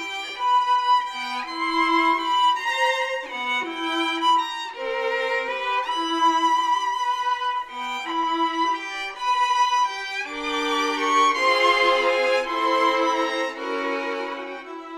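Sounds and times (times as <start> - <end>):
violin melody: 0.0 - 14.9.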